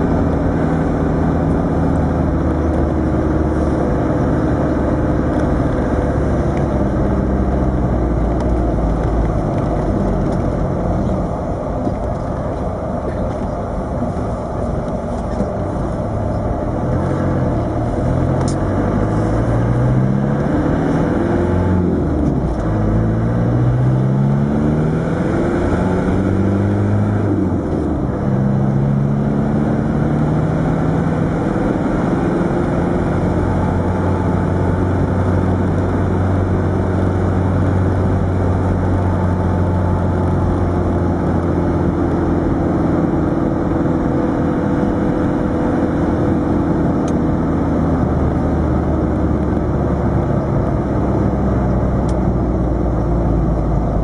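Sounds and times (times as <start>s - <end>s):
diesel engine accelerating: 0.0s - 54.0s.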